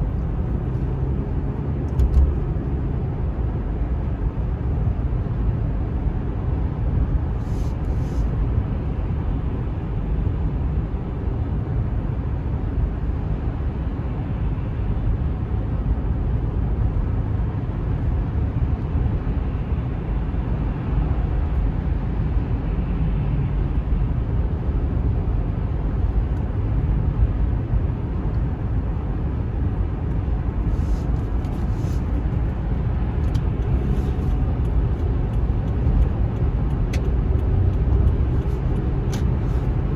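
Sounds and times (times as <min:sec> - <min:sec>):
car cruising on highway: 0:00.0 - 0:39.9.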